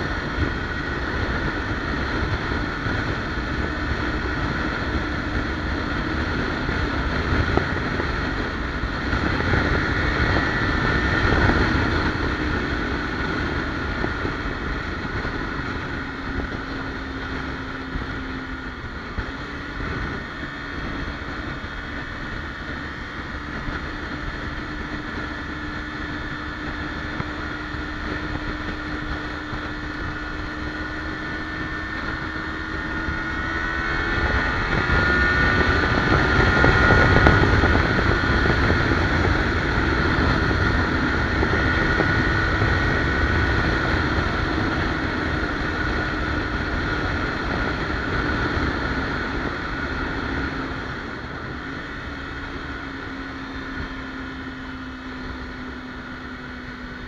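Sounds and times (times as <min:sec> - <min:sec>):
motorcycle engine at speed: 0:00.0 - 0:57.0
wind rush on microphone: 0:00.0 - 0:57.0.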